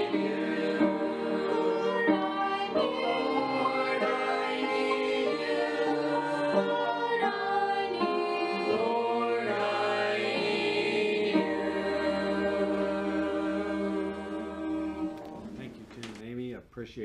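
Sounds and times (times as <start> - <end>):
mixed group singing in parts: 0.0 - 15.6.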